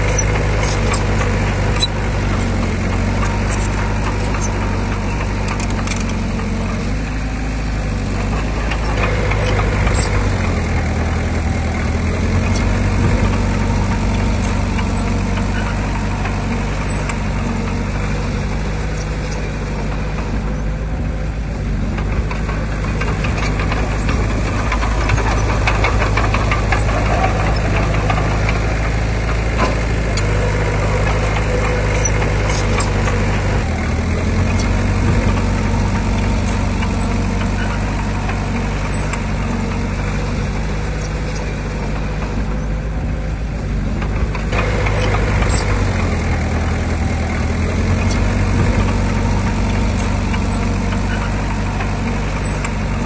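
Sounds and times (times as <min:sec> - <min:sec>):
heavy machinery diesel engine: 0:00.0 - 0:53.0
metal clanks and rattles: 0:00.0 - 0:53.0.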